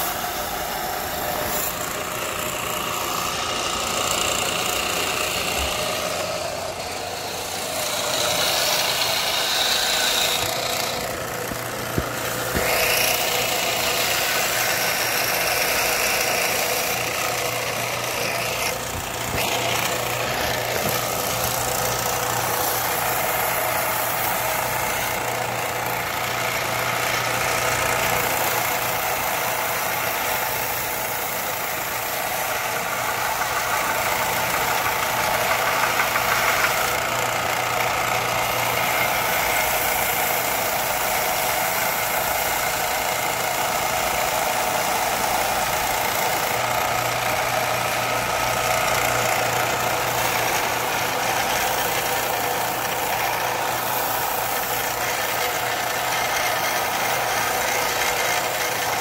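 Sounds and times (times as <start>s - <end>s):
power tool motor hum: 0.0s - 59.0s.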